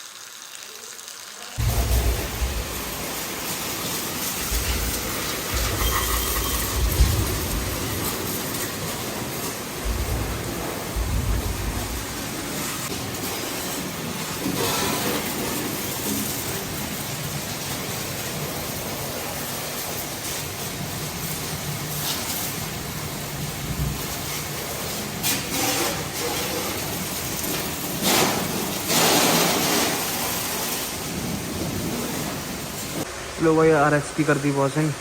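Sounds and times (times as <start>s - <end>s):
hose water spraying: 0.0s - 35.0s.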